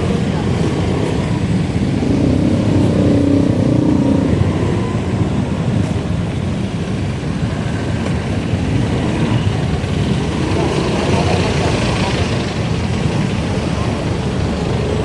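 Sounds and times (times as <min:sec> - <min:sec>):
road and wind rumble: 0:00.0 - 0:15.0.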